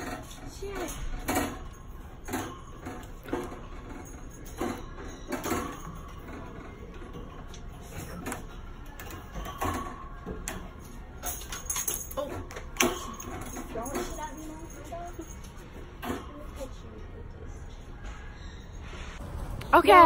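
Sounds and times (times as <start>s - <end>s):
wire cage doors rattling: 0.0s - 16.9s.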